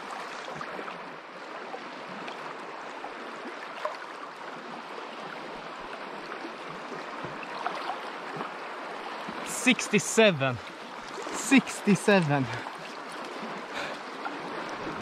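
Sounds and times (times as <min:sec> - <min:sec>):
shallow sea water lapping: 0:00.0 - 0:15.0.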